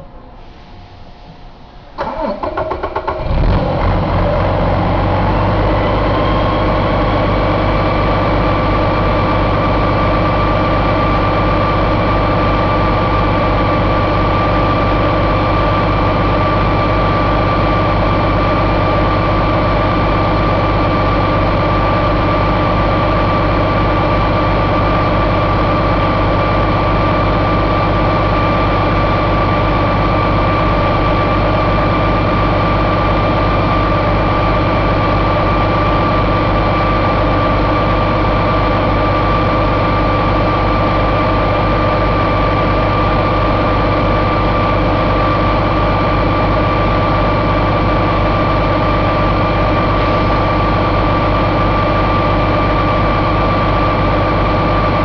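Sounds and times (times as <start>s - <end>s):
high whine: 0.0s - 2.2s, 3.3s - 55.0s
diesel engine starting and idling: 0.0s - 55.0s.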